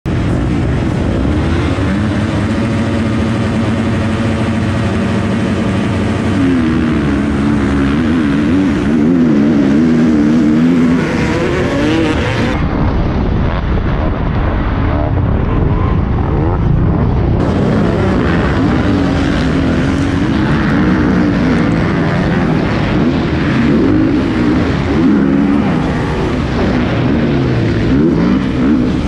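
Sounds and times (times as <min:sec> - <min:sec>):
motocross engines racing: 0:00.1 - 0:29.0.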